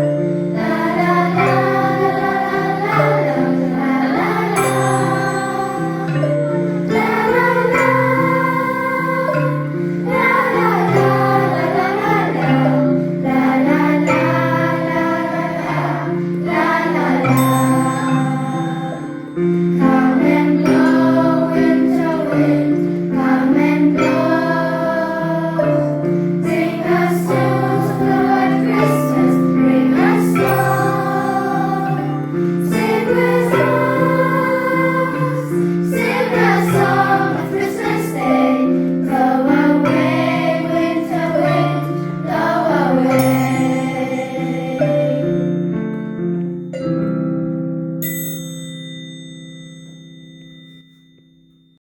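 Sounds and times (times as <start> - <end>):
children's choir singing: 0.0 - 46.6.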